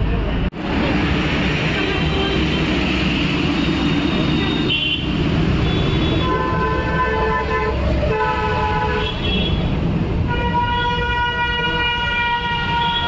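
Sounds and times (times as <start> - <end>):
traffic rumble: 0.0 - 13.0
vehicle horns honking: 1.7 - 13.0.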